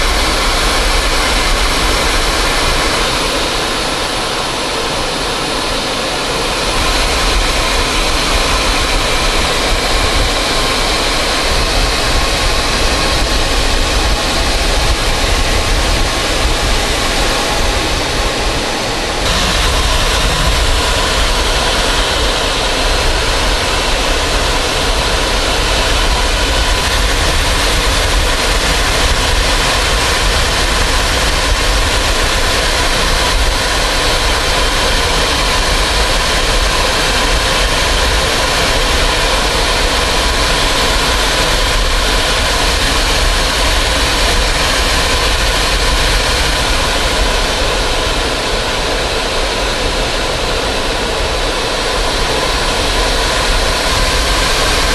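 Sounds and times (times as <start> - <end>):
faint steady whine: 0.0 - 54.9
jet engine running: 0.0 - 54.9.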